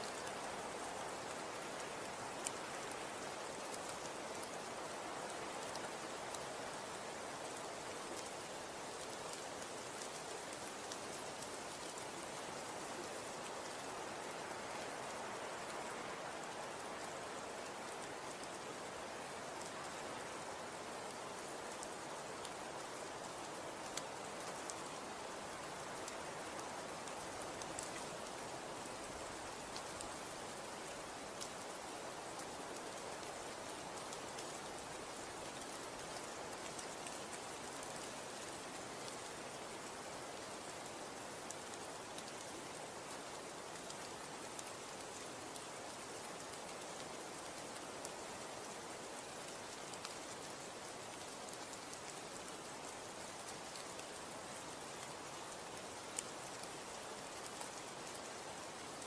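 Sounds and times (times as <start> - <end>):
faint ticks: 0.0 - 20.0, 20.8 - 59.0.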